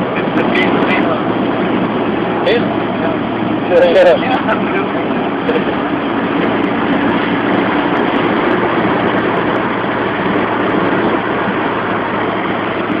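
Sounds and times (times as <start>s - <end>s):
low engine hum: 0.0s - 13.0s
tyre and wind noise: 0.0s - 13.0s.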